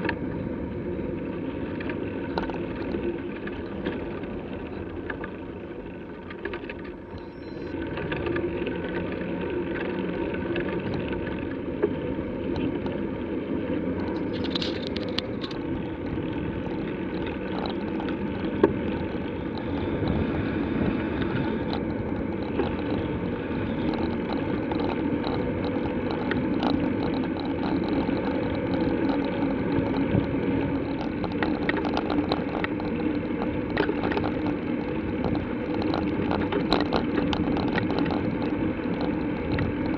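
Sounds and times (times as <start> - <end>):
bicycle ticks and rattles: 0.0 - 39.9
bicycle tyres rumbling: 0.0 - 39.9.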